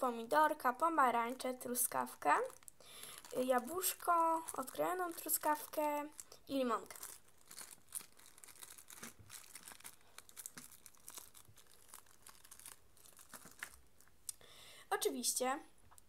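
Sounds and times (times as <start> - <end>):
plastic bag crinkling: 1.0 - 14.2.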